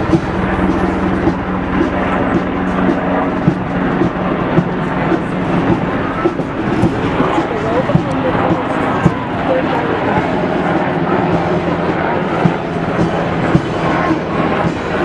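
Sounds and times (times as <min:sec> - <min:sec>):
engine hum: 0:00.0 - 0:15.0
helicopter rotor chop: 0:00.0 - 0:15.0.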